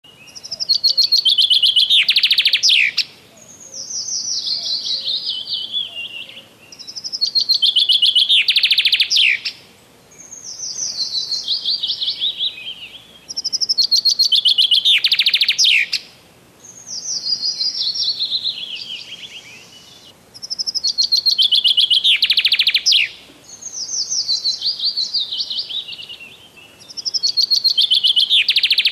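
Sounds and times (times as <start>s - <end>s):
songbird singing: 0.0s - 28.9s.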